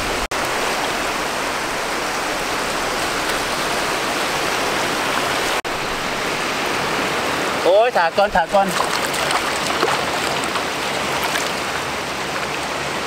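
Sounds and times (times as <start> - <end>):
surf washing over pebbles: 0.0 - 13.0.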